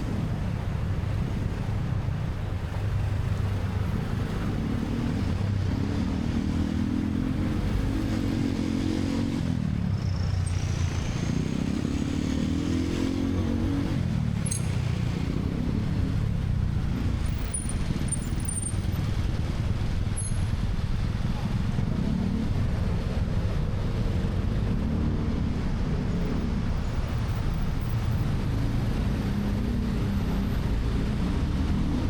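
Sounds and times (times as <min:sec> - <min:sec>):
road and wind noise: 0:00.0 - 0:32.0.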